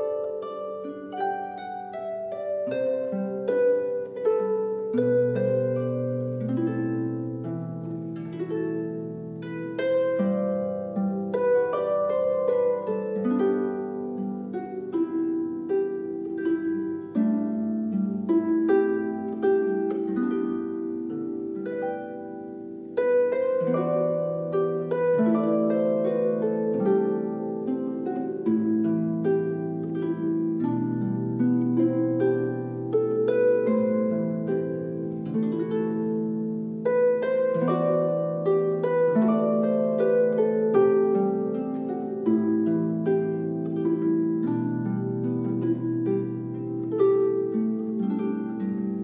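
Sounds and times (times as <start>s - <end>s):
slow instrumental music: 0.0s - 49.0s.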